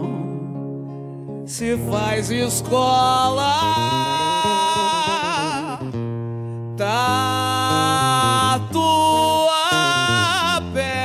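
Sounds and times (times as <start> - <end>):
bass: 0.0 - 11.0
person singing with vibrato: 0.0 - 11.0.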